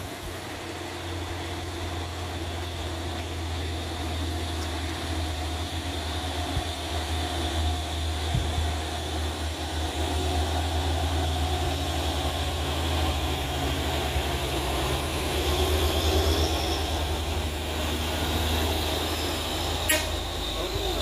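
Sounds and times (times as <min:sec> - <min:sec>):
diesel truck engines droning: 0:00.0 - 0:21.0.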